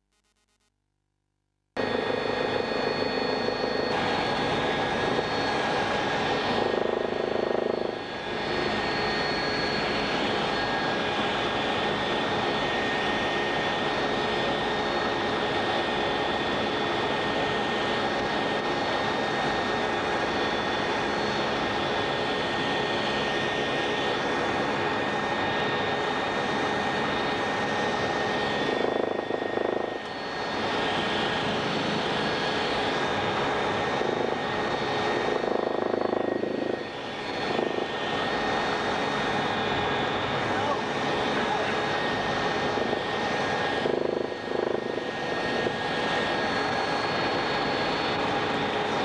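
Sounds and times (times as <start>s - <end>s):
high even whine: 0.0s - 49.0s
helicopter engine and rotor din: 1.8s - 49.0s.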